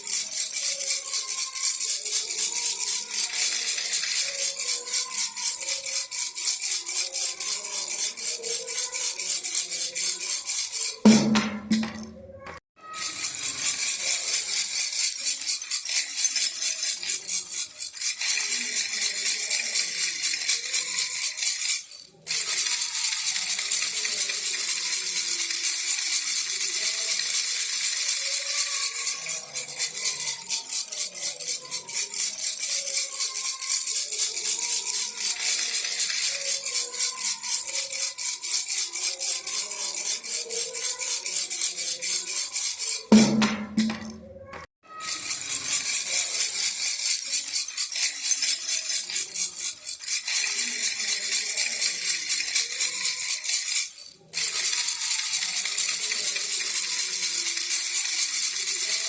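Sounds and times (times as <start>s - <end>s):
baby rattle shaking: 0.0s - 59.0s.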